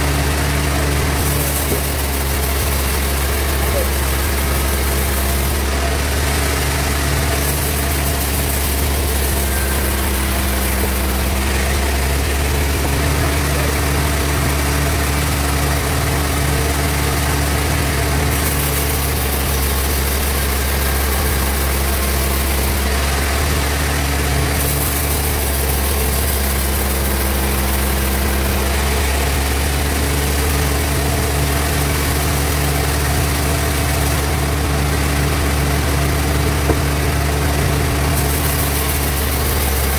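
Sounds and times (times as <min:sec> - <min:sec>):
bandsaw machine humming: 0:00.0 - 0:39.9.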